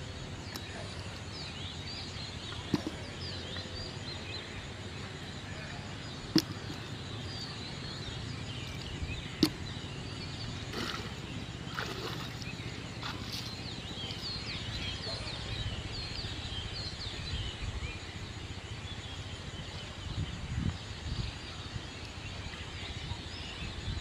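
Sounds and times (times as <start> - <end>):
rural background: 0.0 - 24.0
small birds chirping: 0.0 - 24.0.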